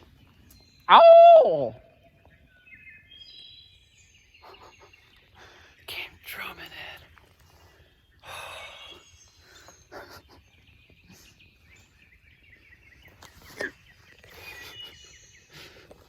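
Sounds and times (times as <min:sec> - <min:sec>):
small bird calls: 0:00.0 - 0:16.0.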